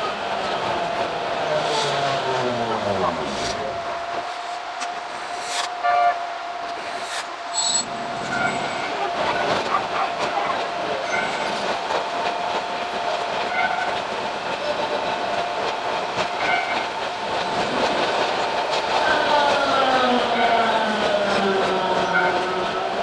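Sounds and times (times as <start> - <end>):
electric train whine: 0.0 - 23.0.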